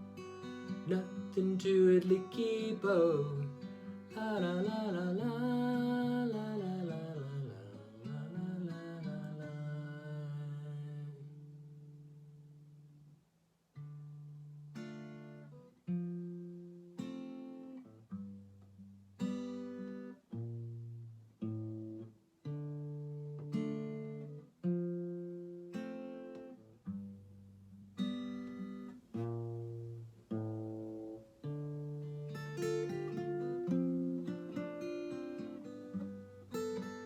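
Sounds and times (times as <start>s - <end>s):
acoustic guitar chords: 0.0s - 37.0s.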